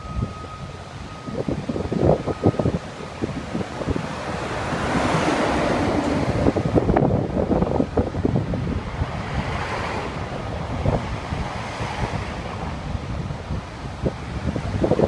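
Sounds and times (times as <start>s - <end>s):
road traffic: 0.0s - 15.0s
wind buffeting microphone: 0.0s - 15.0s.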